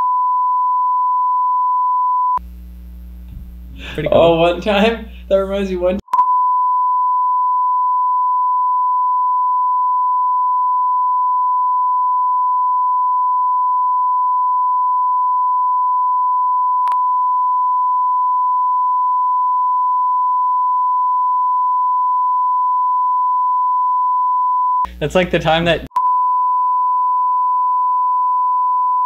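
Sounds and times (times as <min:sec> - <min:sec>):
censor bleep tone: 0:00.0 - 0:02.4, 0:06.1 - 0:24.9, 0:25.9 - 0:29.0.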